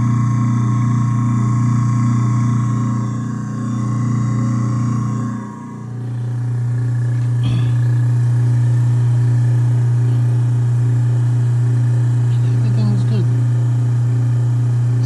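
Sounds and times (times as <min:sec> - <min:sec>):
garbage disposal motor humming: 0:00.0 - 0:15.0.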